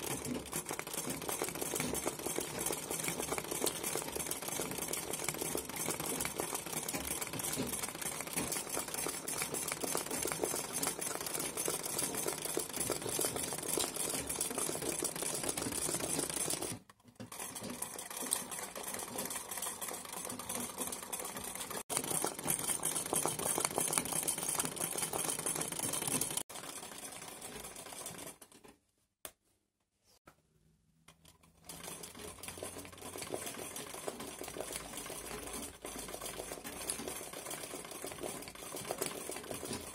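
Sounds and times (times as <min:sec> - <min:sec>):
sewing machine clattering: 0:00.0 - 0:28.8, 0:31.2 - 0:39.9.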